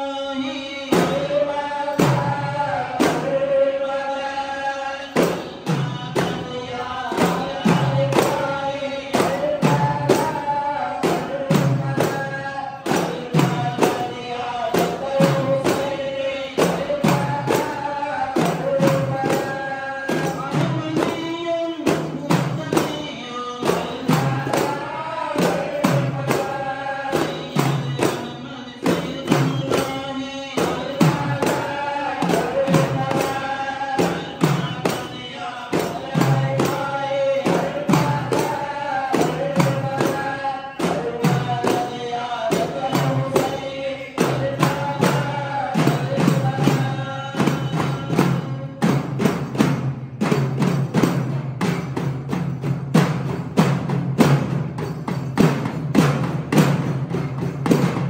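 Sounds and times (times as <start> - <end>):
men chanting together: 0.0 - 49.6
frame drums beating: 0.7 - 4.4, 5.0 - 58.0.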